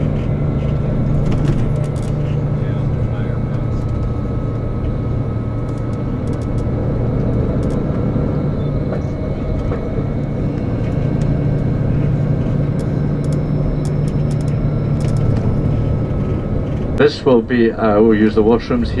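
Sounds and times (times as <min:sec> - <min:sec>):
coach engine and road drone: 0:00.0 - 0:19.0
faint steady whine: 0:00.0 - 0:19.0.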